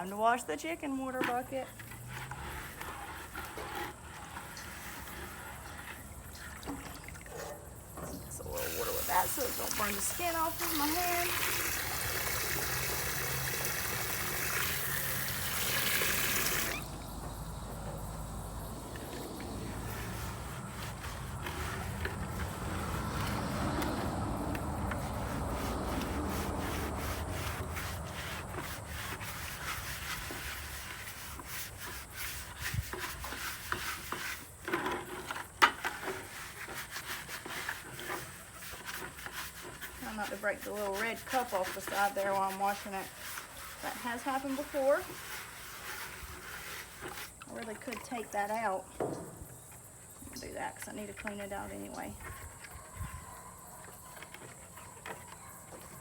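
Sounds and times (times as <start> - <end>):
hose water running into bucket: 0.0 - 48.8
bucket scrubbed by hand: 0.0 - 49.0, 49.7 - 56.0.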